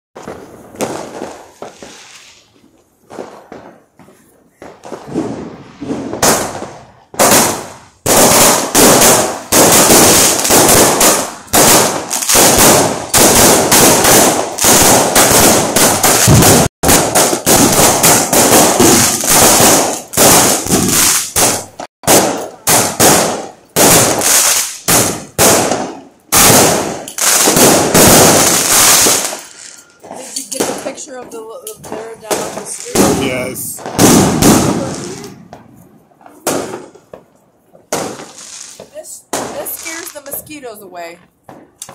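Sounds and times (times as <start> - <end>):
fireworks bangs: 0.2 - 41.9.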